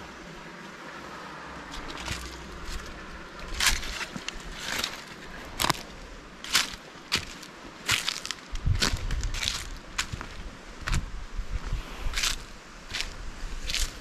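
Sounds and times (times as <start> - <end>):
steady low rush: 0.0 - 14.0
footsteps crunching dry leaves: 1.6 - 14.0.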